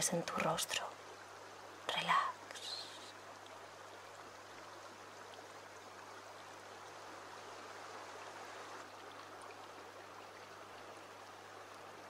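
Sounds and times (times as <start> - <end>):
stream running over stones: 0.0 - 12.0.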